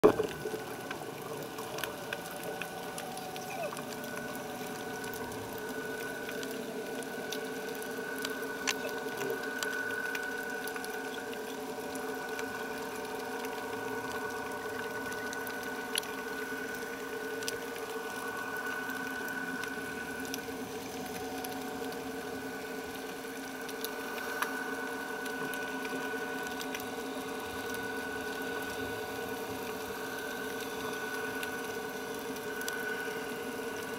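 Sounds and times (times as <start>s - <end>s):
underwater motor whine: 0.0s - 33.9s.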